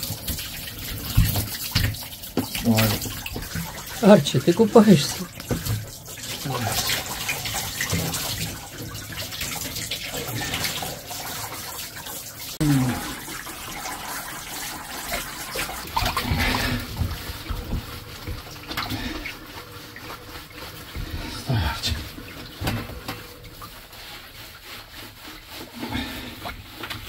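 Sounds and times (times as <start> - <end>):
running water splashing on fur: 0.0 - 27.0.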